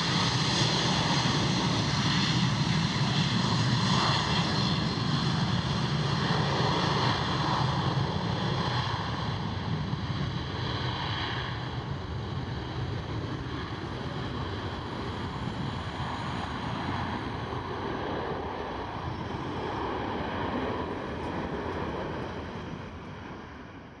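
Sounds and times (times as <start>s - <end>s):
wind buffeting microphone: 0.0s - 23.8s
jet engines rumbling: 0.0s - 24.0s.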